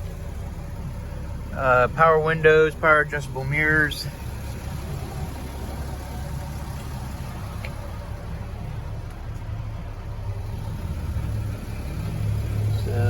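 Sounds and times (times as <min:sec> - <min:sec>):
diesel truck idling: 0:00.0 - 0:13.0.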